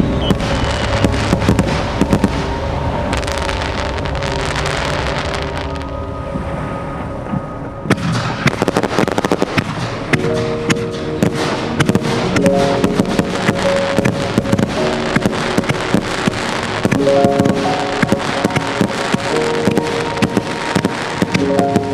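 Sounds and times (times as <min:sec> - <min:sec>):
fireworks crackling and popping: 0:00.0 - 0:06.0, 0:07.9 - 0:21.9
background music: 0:00.0 - 0:21.9.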